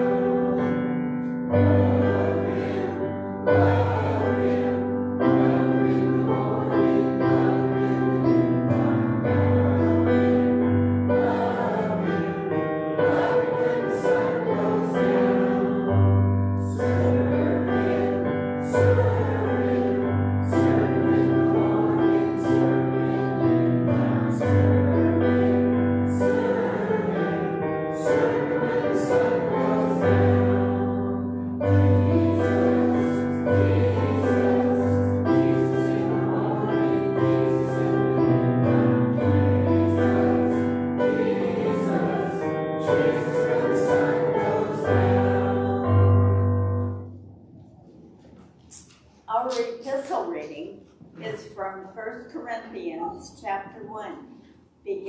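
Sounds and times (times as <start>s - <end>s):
voices singing a hymn: 0.0s - 47.2s
keyboard chords: 0.0s - 47.7s.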